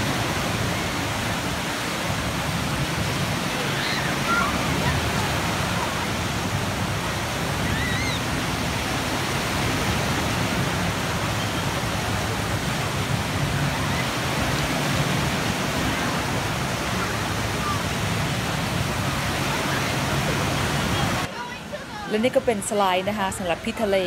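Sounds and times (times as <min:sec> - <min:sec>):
churning water and breaking waves: 0:00.0 - 0:24.0.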